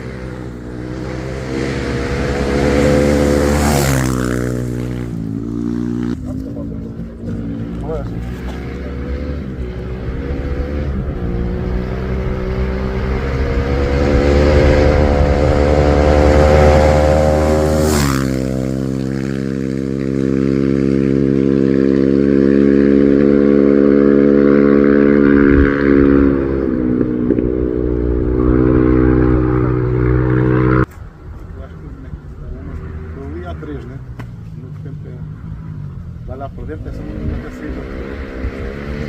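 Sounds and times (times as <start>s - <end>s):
vehicle engine passing at full throttle: 0.0s - 30.9s, 31.6s - 39.0s.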